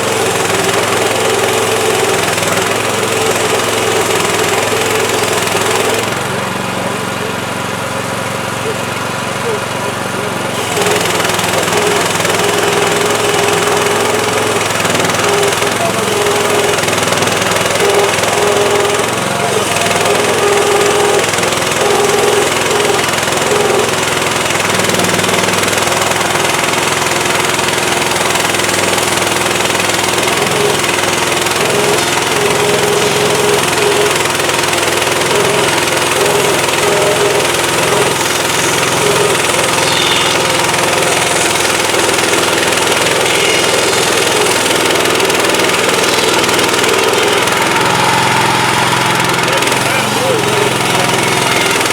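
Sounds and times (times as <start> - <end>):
sawmill gas engine running: 0.0 - 51.9.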